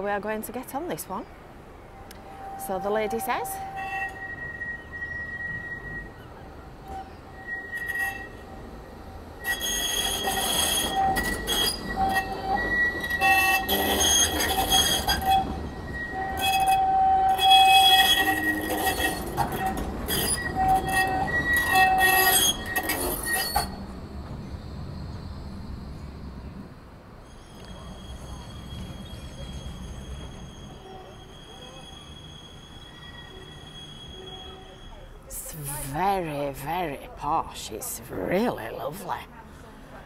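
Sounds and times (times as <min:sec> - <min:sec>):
tram wheels squealing: 0:01.4 - 0:38.6.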